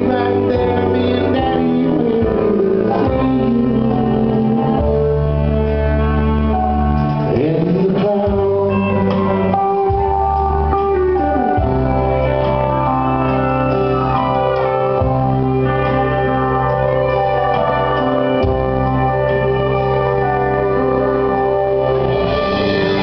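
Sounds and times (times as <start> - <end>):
acoustic guitar: 0.0 - 23.0
organ-like chords: 0.0 - 23.0.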